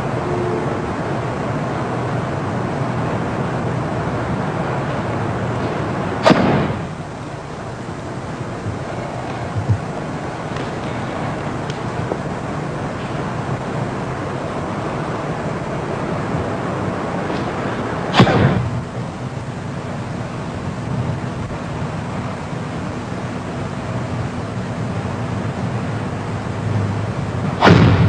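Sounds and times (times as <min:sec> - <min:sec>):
videotape hiss and hum: 0:00.0 - 0:28.0.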